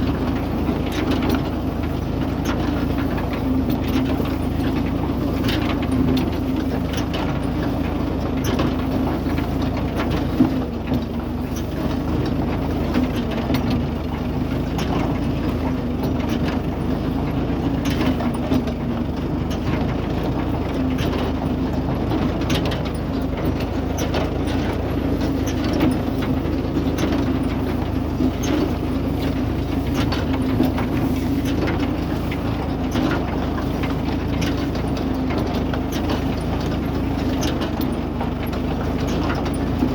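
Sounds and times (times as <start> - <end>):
baler clacking and knocking: 0.0 - 39.9
tractor engine drone: 0.0 - 39.9.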